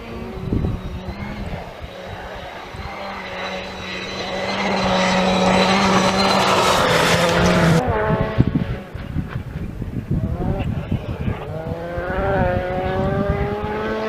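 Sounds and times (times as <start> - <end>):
rally car engine: 0.0 - 14.0.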